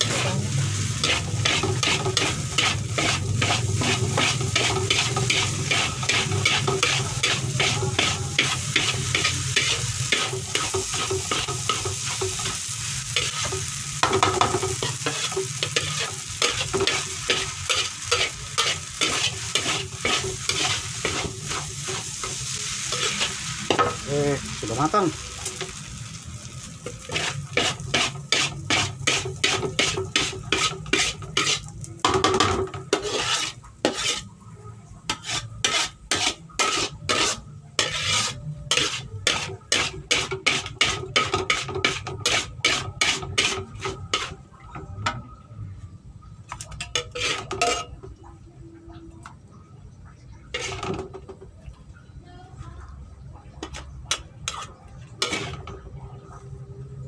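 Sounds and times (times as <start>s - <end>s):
metal spatula scraping a wok: 0.0s - 44.8s, 46.5s - 48.0s, 50.4s - 51.4s, 53.6s - 56.4s.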